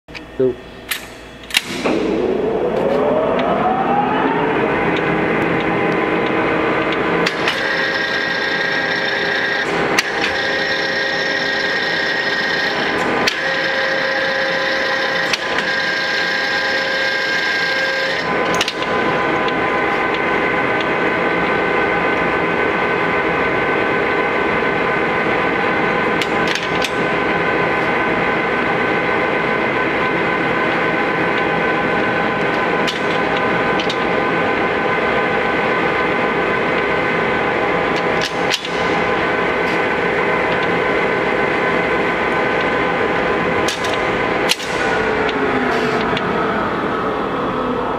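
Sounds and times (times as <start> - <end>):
lathe gears whining: 1.7 - 47.9.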